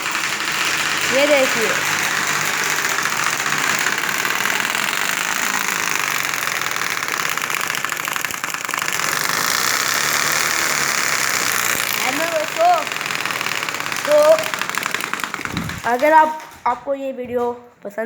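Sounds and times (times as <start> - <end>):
paper rattling in bicycle spokes: 0.0 - 17.7.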